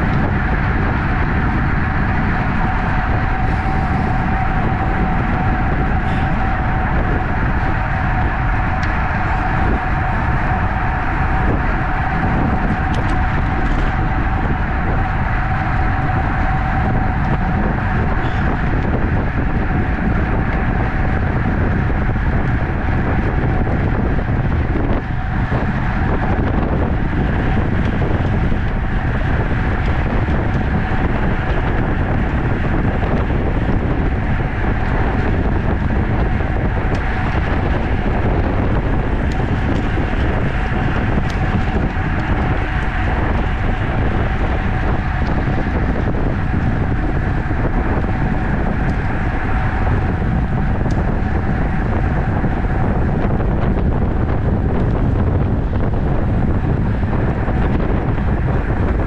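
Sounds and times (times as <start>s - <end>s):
thin constant whine: 0.0s - 59.0s
wind rush over microphone: 0.0s - 59.0s.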